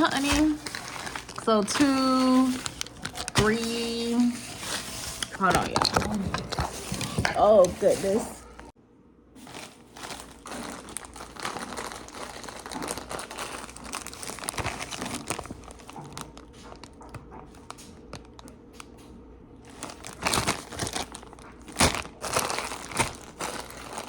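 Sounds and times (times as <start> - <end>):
packaging crunches: 0.0 - 8.5, 9.4 - 18.9, 19.7 - 24.0
plastic packaging crinkling: 0.0 - 8.6, 9.4 - 19.0, 19.6 - 24.0.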